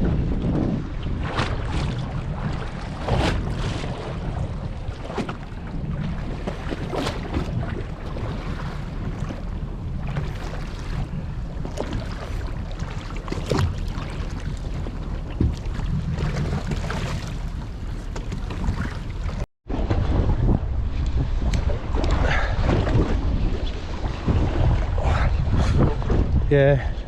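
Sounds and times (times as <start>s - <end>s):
water noise: 0.0s - 27.0s
wind rushing over microphone: 0.0s - 27.0s.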